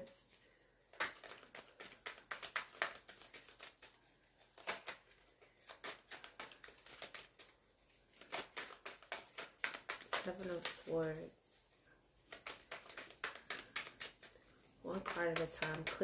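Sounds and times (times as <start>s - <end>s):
cards being shuffled: 0.9s - 7.5s, 8.1s - 11.0s, 12.2s - 16.0s.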